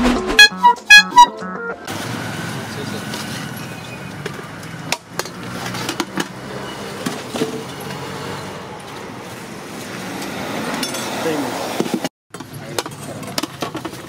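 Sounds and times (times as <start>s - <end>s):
traffic hum: 0.4s - 14.0s.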